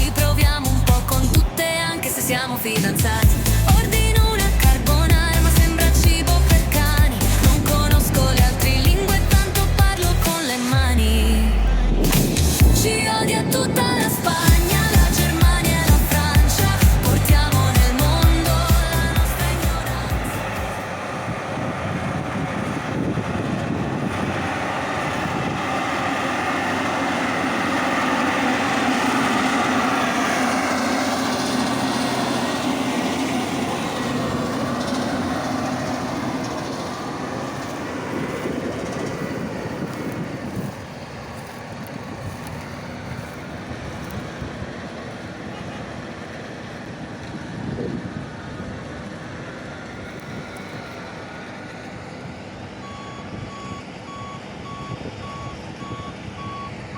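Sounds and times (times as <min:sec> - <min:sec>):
diesel engine running under load: 0:00.0 - 0:56.9.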